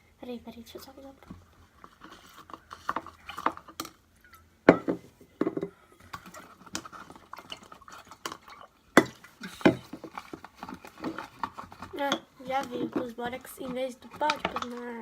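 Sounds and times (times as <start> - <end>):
utensil stirring and scraping: 1.2 - 4.9, 6.0 - 15.0.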